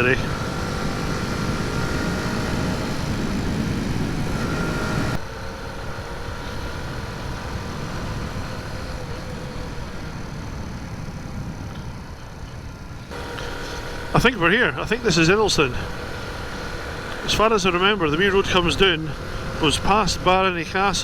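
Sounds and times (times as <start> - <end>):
small motorcycle engine running: 0.0 - 21.0
steady rushing noise: 0.0 - 21.0.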